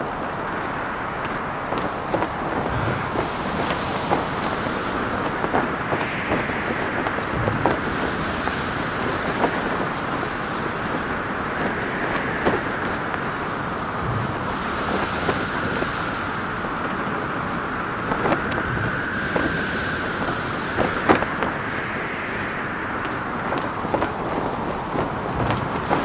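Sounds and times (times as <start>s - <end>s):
wind whistling: 0.0s - 26.0s.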